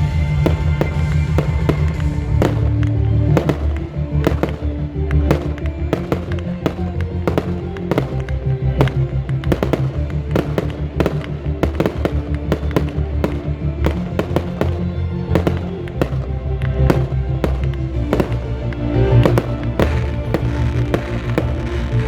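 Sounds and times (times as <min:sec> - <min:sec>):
fireworks bangs and cracks: 0:00.0 - 0:22.0
music with steady bass line: 0:00.0 - 0:22.0.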